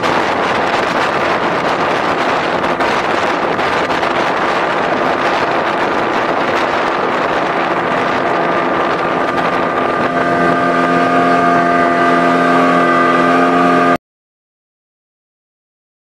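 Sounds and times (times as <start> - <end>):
motorboat engine running: 0.0 - 14.0
wind buffeting microphone: 0.0 - 14.0.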